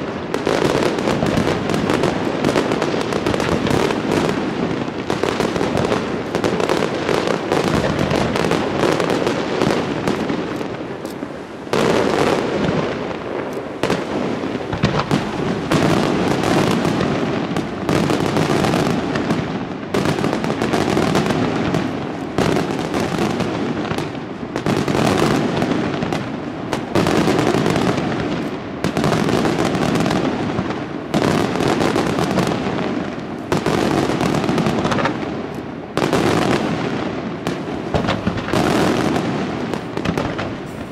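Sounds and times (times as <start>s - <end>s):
fireworks banging: 0.0s - 40.9s.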